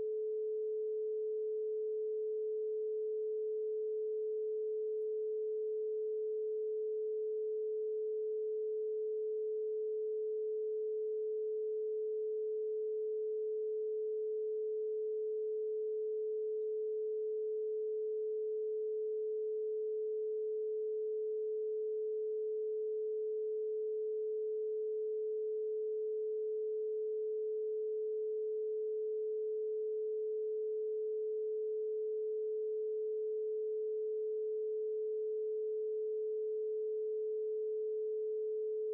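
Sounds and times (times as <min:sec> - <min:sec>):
steady electronic sine tone: 0:00.0 - 0:38.9.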